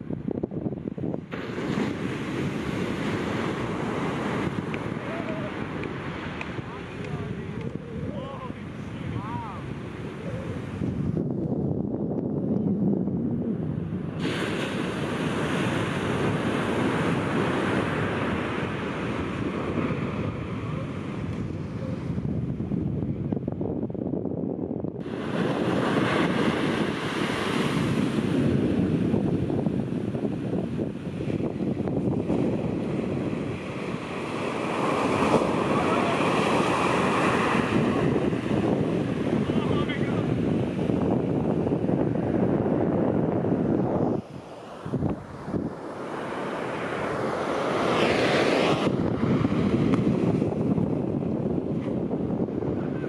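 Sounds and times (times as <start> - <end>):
surf breaking on beach: 0.0 - 11.3, 13.4 - 23.2, 25.0 - 53.0
wind rumbling on microphone: 0.0 - 53.0.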